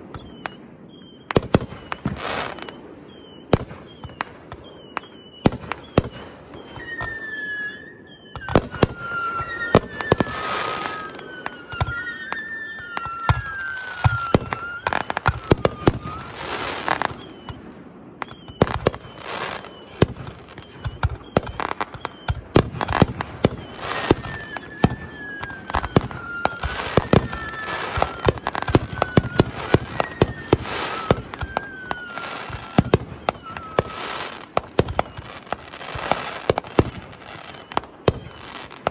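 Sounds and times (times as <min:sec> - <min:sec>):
firework bangs: 0:00.0 - 0:38.9
firework crackle: 0:00.0 - 0:38.9
high whistling tone: 0:00.0 - 0:38.9.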